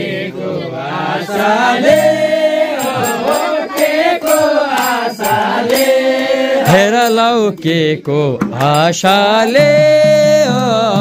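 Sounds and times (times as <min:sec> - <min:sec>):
person singing devotional chant: 0:00.0 - 0:11.0.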